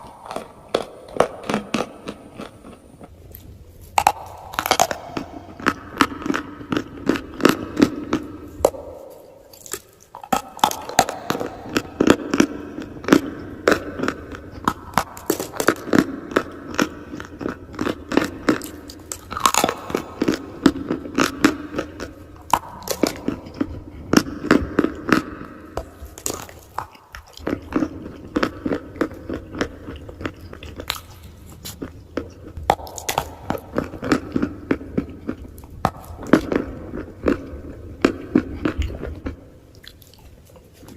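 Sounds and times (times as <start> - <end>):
person chewing crunchy chalk: 0.0 - 40.9.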